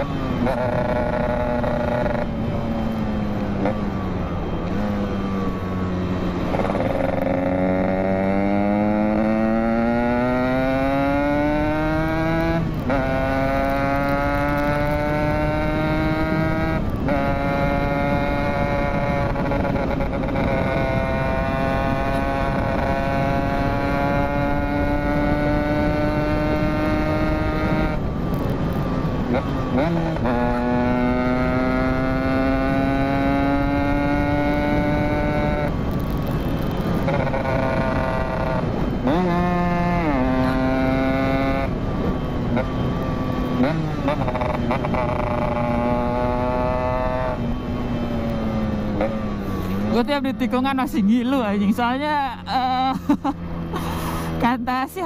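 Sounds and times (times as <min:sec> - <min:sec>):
two-stroke motorcycle engine accelerating: 0:00.0 - 0:55.0.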